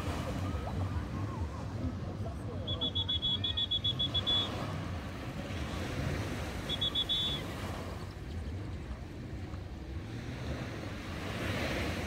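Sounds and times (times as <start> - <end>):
small waves washing onto sand: 0.0 - 2.4, 3.7 - 12.0.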